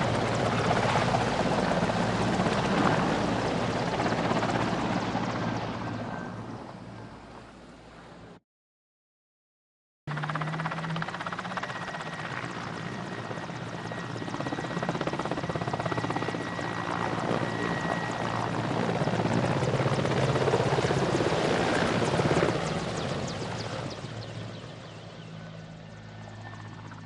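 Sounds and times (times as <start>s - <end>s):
helicopter rotor chop with whine: 0.0s - 7.8s, 10.1s - 27.0s.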